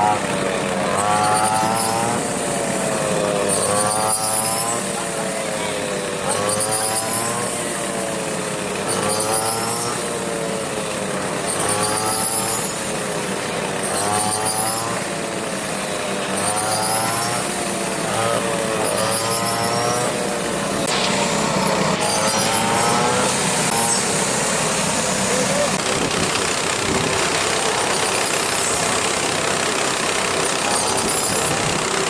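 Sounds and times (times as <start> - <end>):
machine engine humming and whining: 0.0 - 32.0.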